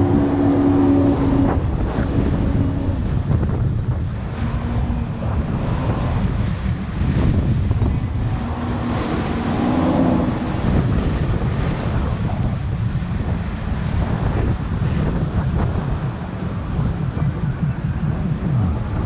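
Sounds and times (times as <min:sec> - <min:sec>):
jet ski engine running: 0:00.0 - 0:19.0
rushing water: 0:00.0 - 0:19.0
wind buffeting microphone: 0:00.0 - 0:19.0.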